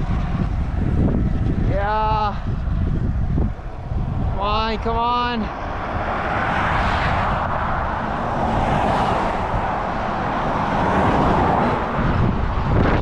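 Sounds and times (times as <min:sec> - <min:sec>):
moving vehicle rushing noise: 0:00.0 - 0:13.0.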